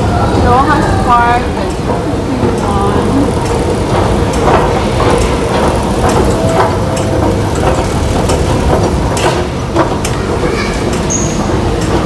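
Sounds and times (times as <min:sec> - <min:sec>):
escalator rumbling: 0:00.0 - 0:12.0
machinery clicks: 0:00.4 - 0:12.0.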